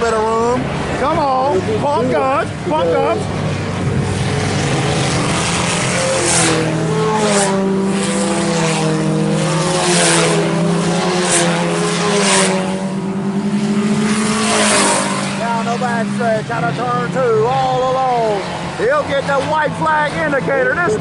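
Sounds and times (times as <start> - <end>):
race car engines racing: 0.0 - 21.0.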